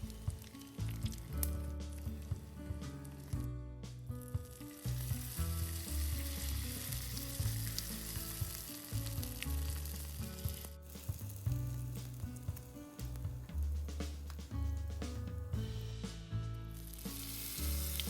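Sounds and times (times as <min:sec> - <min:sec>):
oil sizzling while deep-frying: 0:00.0 - 0:18.0.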